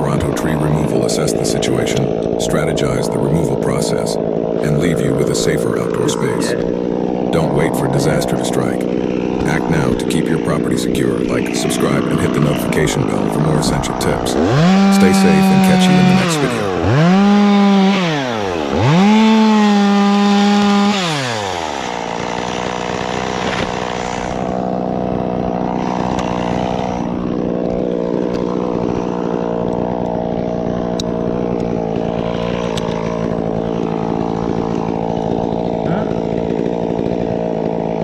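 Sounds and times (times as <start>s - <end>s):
chainsaw engine revving: 0.0s - 38.0s.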